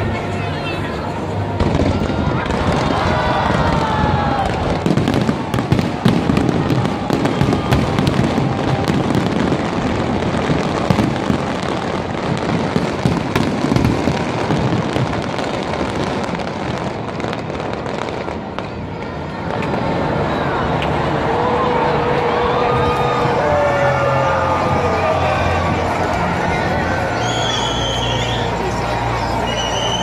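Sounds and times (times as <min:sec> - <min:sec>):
fireworks crackling and booming: 0:00.0 - 0:30.0.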